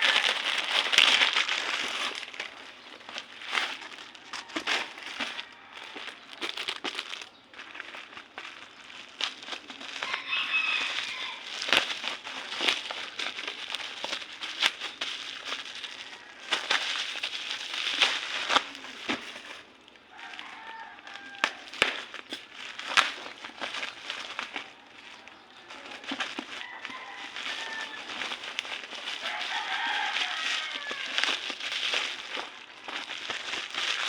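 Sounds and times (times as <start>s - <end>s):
packaging crinkling and tearing: 0.0s - 34.0s
sharp crackles and clicks: 0.0s - 34.0s.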